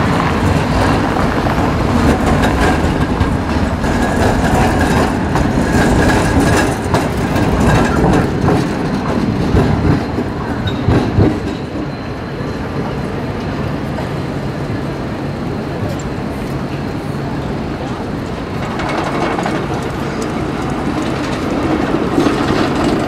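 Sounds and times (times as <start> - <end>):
street traffic hum: 0.0 - 23.0
tram wheels clacking over rails: 0.0 - 23.0.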